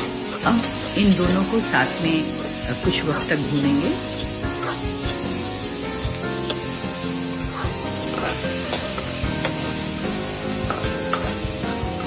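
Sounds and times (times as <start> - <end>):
metal spatula scraping a pan: 0.0 - 12.0
onions sizzling in hot oil: 0.0 - 12.0.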